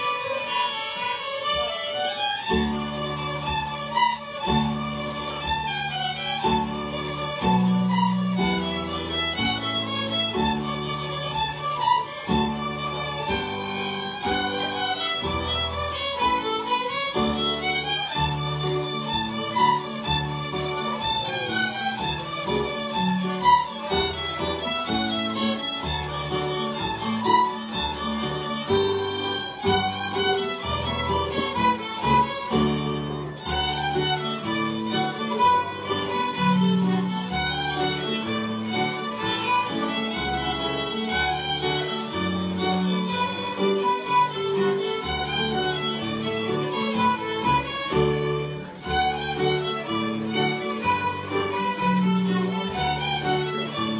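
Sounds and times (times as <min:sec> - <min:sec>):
fiddles playing a lively tune: 0:00.0 - 0:53.9.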